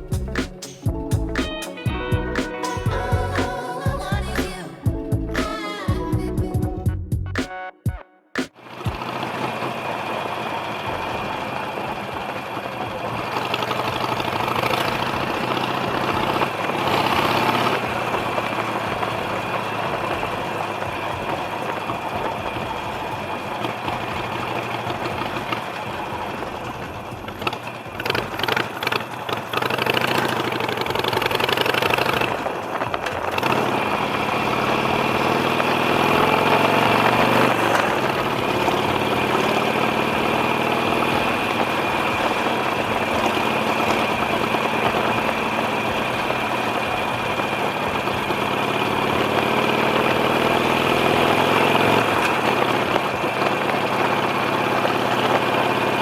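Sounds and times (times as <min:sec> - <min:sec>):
motorcycle engines idling: 0:00.0 - 0:06.5, 0:08.6 - 0:56.0.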